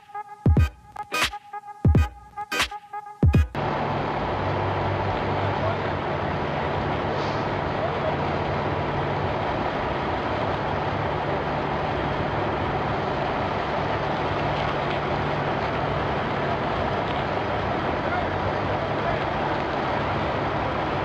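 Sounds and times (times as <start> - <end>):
vehicle engine running: 3.4 - 21.0
road and wind noise: 3.6 - 21.0.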